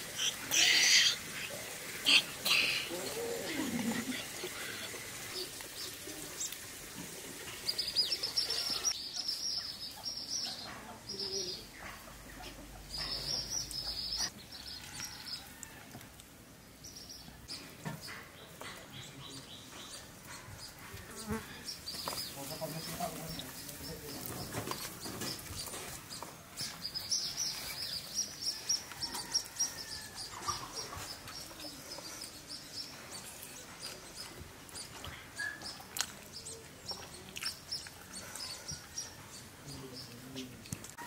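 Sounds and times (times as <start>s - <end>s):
birds chirping: 0.0s - 15.6s, 16.7s - 41.0s.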